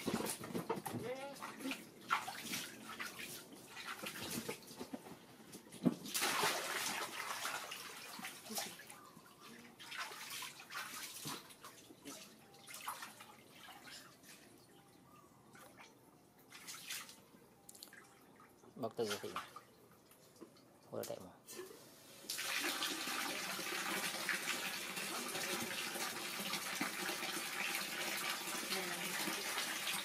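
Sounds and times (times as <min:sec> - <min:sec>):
water splashing in pool: 0:01.0 - 0:04.8, 0:05.7 - 0:14.7, 0:15.5 - 0:20.5, 0:22.2 - 0:30.0.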